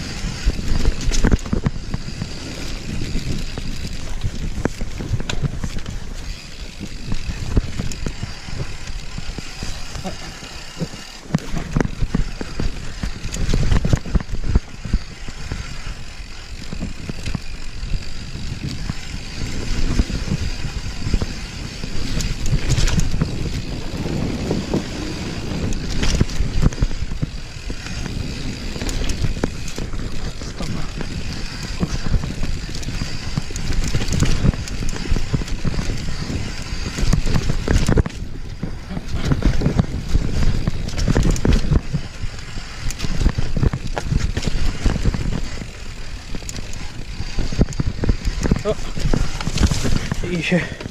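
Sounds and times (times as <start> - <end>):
bike knocking and rattling: 0.0 - 50.9.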